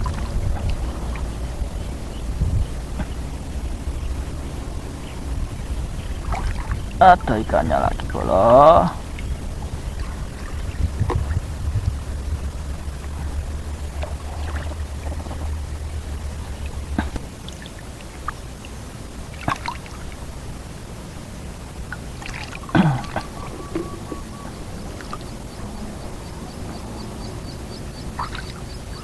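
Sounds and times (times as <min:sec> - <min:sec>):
shallow water trickling and splashing: 0:00.0 - 0:29.0.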